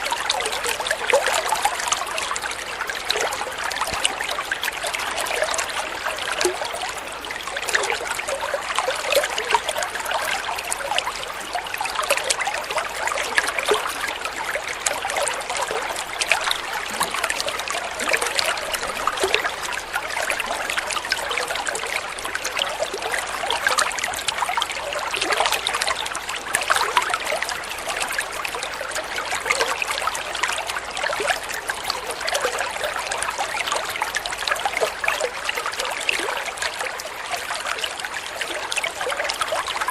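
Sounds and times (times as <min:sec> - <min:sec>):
water flowing and trickling: 0:00.0 - 0:39.9
water splashing and bubbling: 0:00.0 - 0:39.9.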